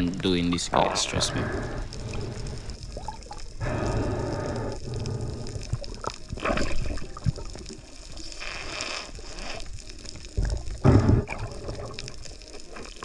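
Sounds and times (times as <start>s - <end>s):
water sloshing and gurgling: 0.6s - 13.0s.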